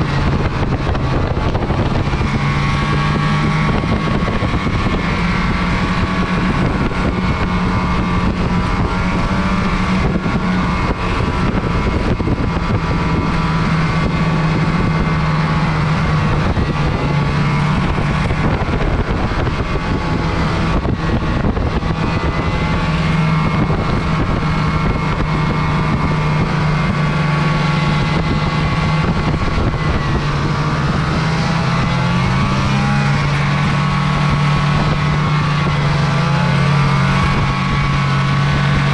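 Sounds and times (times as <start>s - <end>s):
constant rush of noise: 0.0s - 38.9s
snowmobile engine running: 0.0s - 38.9s.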